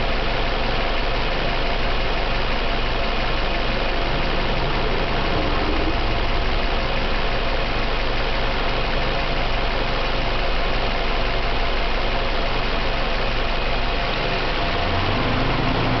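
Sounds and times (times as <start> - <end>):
car engine idling: 0.0 - 16.0
engine knock: 0.0 - 16.0.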